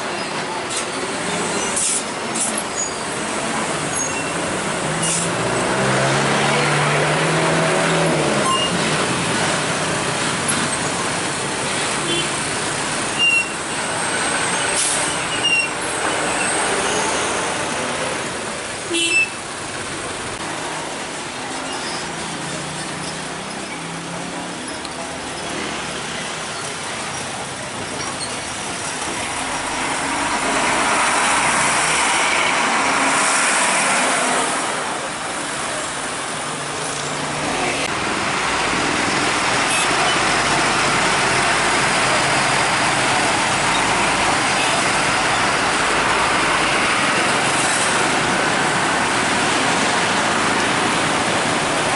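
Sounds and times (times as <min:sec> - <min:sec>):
heavy trucks passing: 0:00.0 - 0:51.9
road traffic: 0:00.0 - 0:51.9.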